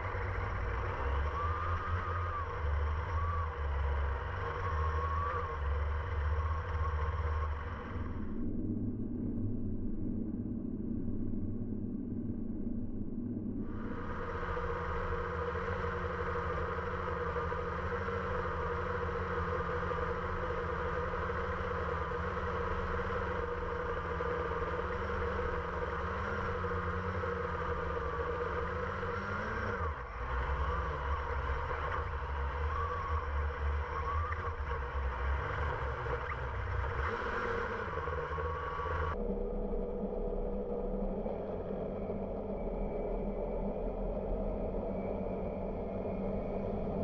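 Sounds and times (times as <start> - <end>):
drone propellers whining: 0.0 - 47.0
low rumble: 0.0 - 47.0.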